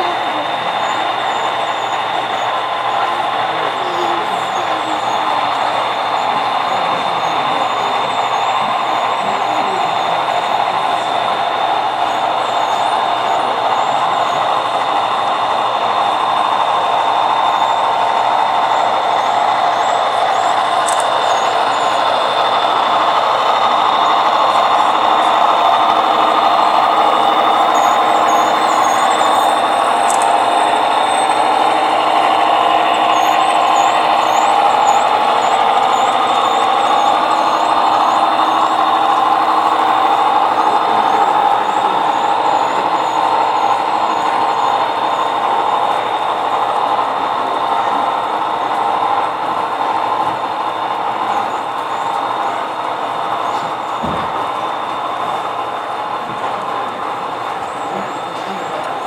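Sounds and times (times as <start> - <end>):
model train rumble and whir: 0.0 - 59.0
thin steady whine: 0.0 - 59.0.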